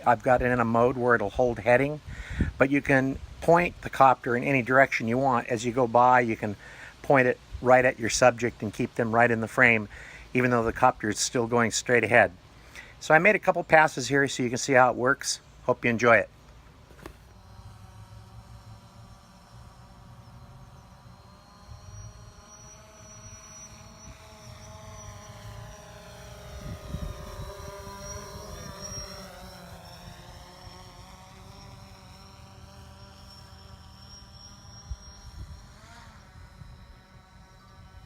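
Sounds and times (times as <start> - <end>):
drone propeller whine: 0.0 - 38.0.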